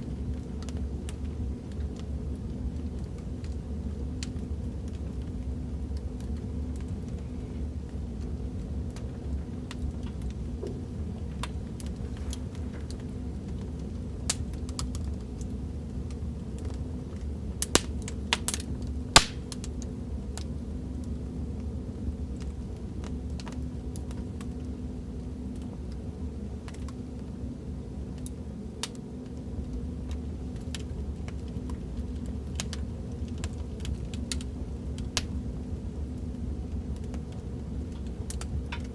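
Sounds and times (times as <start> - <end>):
fireplace crackling: 0.0 - 38.9.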